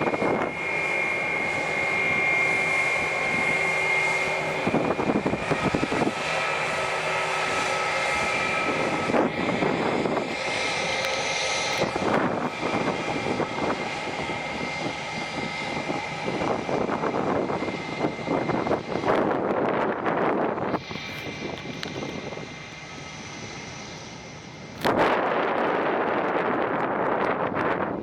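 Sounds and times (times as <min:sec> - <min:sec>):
airplane engines whining: 0:00.0 - 0:28.0.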